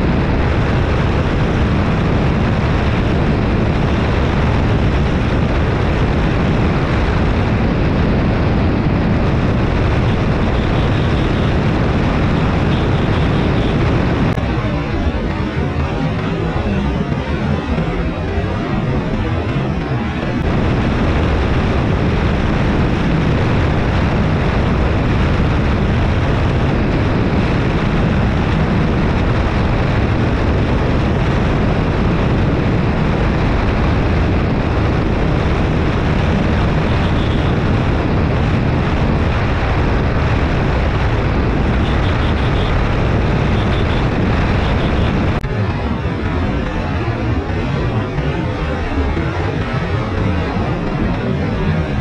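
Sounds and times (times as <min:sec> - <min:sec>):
wind rushing over microphone: 0:00.0 - 0:52.0.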